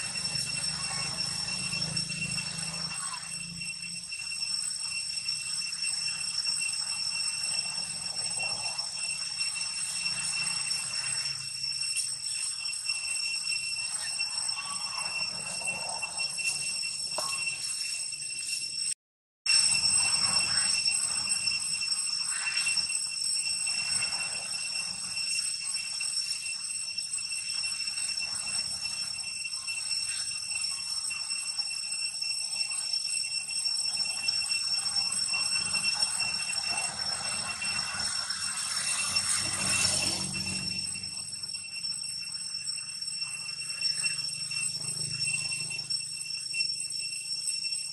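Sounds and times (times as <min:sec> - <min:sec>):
high-pitched insect drone: 0:00.0 - 0:47.9.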